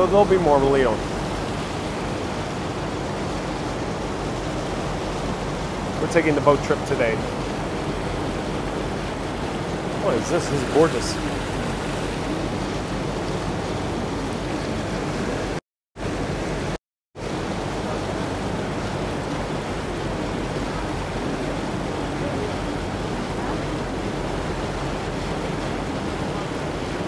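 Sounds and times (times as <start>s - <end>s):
rushing water and air: 0.0s - 27.0s.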